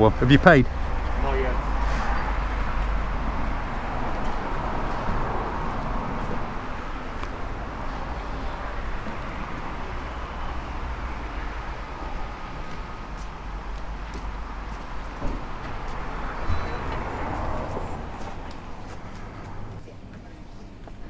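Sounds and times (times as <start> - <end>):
low engine hum: 0.0 - 19.8
passing traffic: 0.0 - 21.0.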